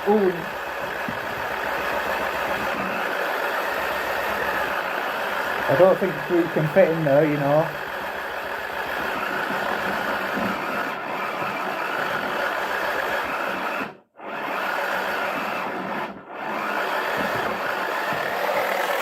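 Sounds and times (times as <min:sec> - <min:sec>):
small electric motor running: 0:00.0 - 0:19.0.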